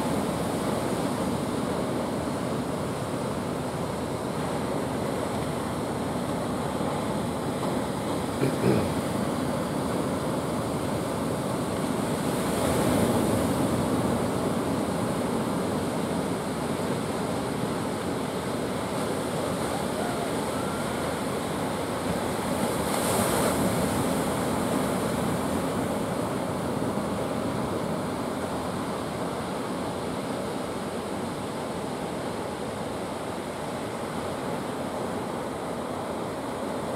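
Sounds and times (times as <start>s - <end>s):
surf breaking on a beach: 0.0s - 36.9s.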